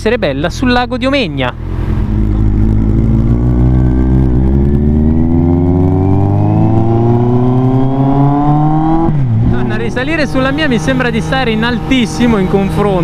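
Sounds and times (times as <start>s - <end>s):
motorcycle engine accelerating: 1.5s - 13.0s.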